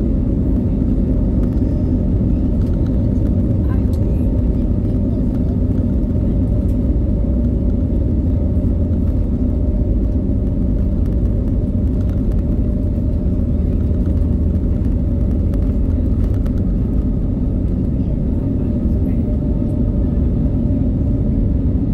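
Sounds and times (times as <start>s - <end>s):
airliner cabin rumble: 0.0s - 21.9s.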